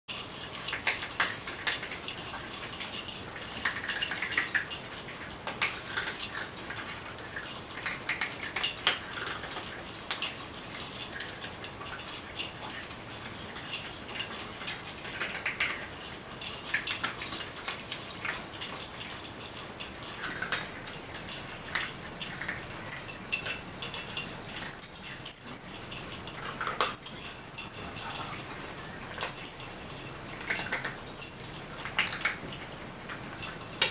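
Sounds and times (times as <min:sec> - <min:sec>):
cats crunching food: 0:00.1 - 0:33.9
clinking against bowls: 0:00.1 - 0:33.9.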